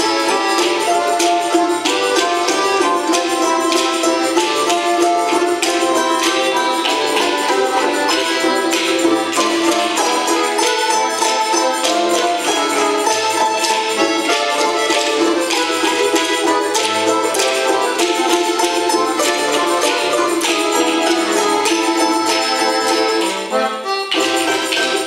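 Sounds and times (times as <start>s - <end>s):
folk ensemble playing dance tune: 0.0s - 25.0s.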